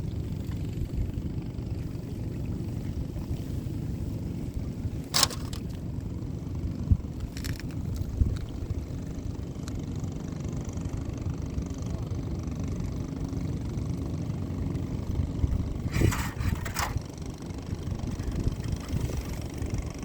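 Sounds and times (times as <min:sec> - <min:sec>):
boat engine rumbling: 0:00.0 - 0:20.0.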